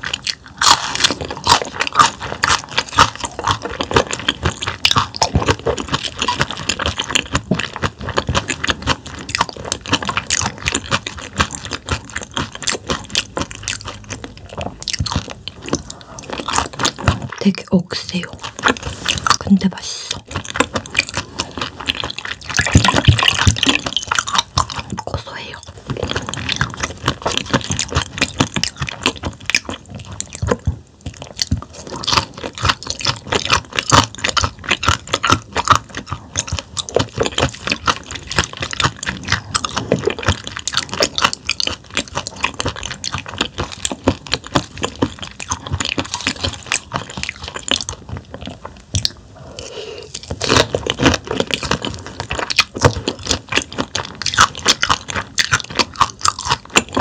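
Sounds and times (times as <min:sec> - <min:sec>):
chewing crunchy fish bones: 0:00.0 - 0:57.0.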